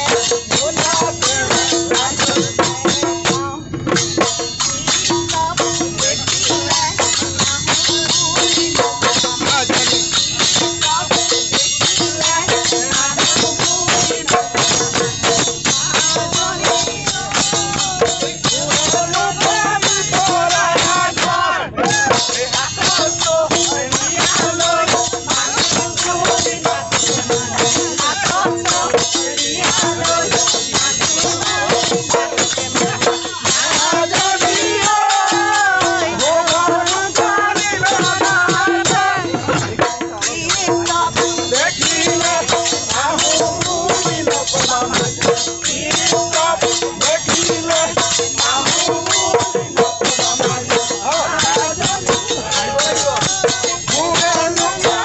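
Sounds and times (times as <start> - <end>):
people singing folk song: 0.0 - 55.0.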